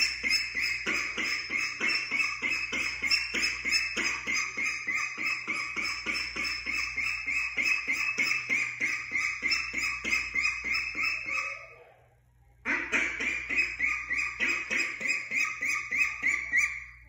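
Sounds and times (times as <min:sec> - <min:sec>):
young duck peeping: 0:00.0 - 0:11.8, 0:12.7 - 0:17.0.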